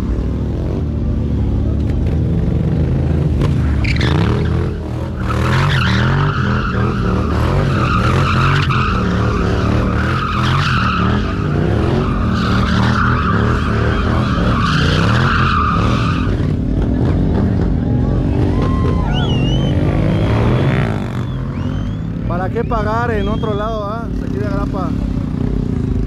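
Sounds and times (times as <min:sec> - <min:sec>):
motorcycle engine revving: 0:00.0 - 0:26.0
motorcycle tyre squealing: 0:03.4 - 0:25.5.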